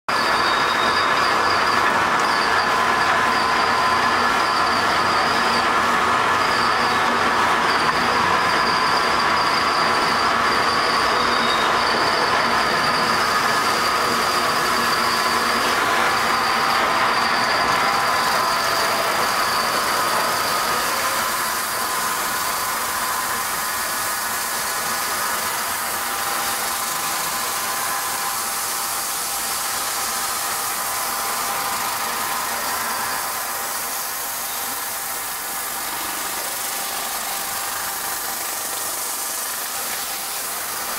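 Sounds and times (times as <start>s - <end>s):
high machine whine: 0.1s - 40.9s
sander machine running: 0.1s - 40.9s.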